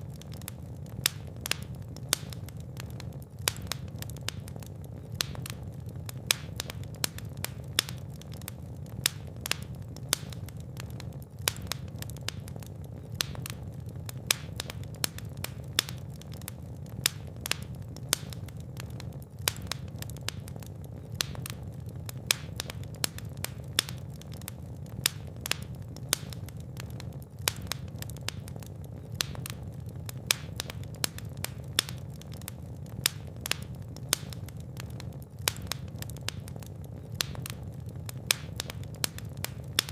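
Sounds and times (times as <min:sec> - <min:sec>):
fire crackling in a fireplace: 0:00.0 - 0:39.9
low rumble of flame: 0:00.0 - 0:39.9.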